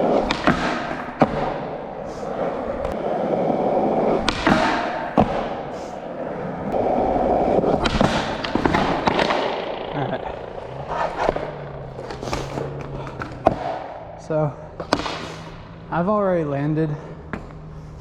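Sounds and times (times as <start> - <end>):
skateboard clacks: 0.0 - 15.7
skateboard wheels rolling: 0.0 - 18.0.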